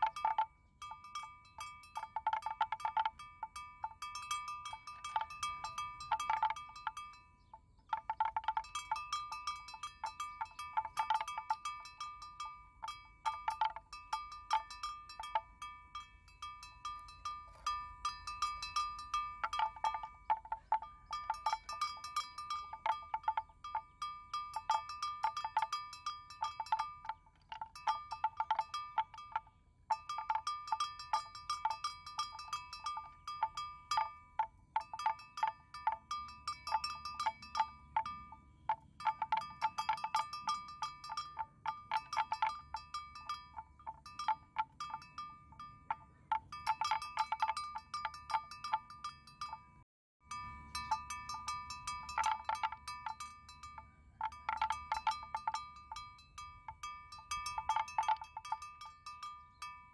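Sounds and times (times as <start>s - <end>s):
metal animal bell clanking: 0.0s - 59.9s.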